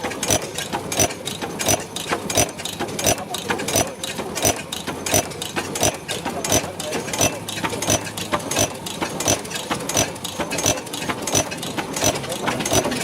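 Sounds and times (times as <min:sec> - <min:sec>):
light mechanical ticking: 0:00.0 - 0:13.0
stationary engine knocking: 0:00.0 - 0:13.0.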